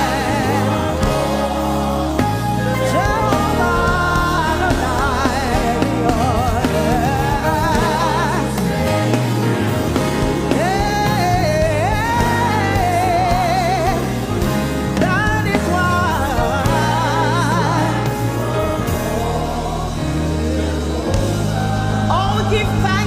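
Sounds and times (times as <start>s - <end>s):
band bass: 0.0s - 23.0s
choir singing: 0.0s - 23.0s
lead singer with vibrato: 0.0s - 23.0s.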